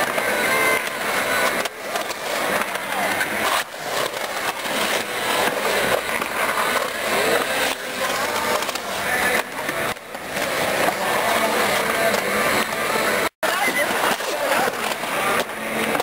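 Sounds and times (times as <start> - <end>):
skateboard wheels on concrete: 0.0 - 16.0.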